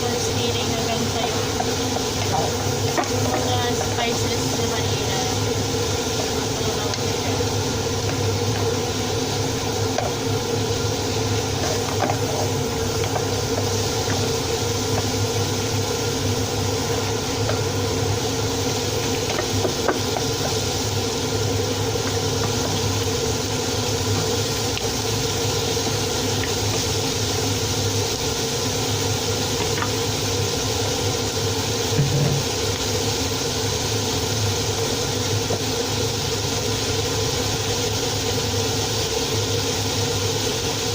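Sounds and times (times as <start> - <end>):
fan motor hum and hiss: 0.0 - 40.9.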